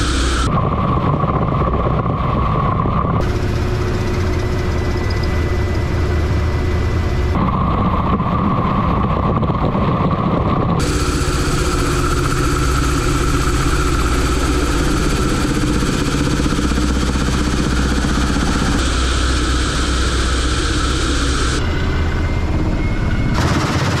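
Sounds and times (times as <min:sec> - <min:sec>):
helicopter engine drone: 0:00.0 - 0:24.0.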